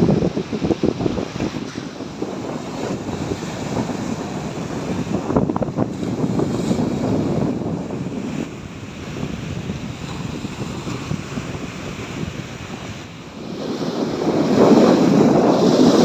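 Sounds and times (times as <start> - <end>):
sea waves breaking on beach: 0.0 - 16.0.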